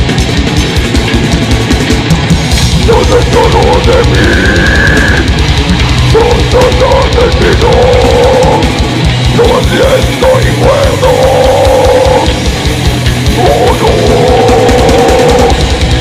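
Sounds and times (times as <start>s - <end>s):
fast kick-drum strokes: 0.0s - 16.0s
heavy metal band playing: 0.0s - 16.0s.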